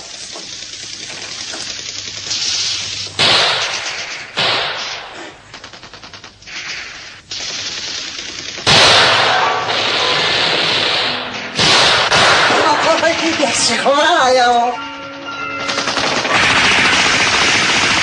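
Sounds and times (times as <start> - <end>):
submachine gun automatic bursts: 0.0 - 18.0.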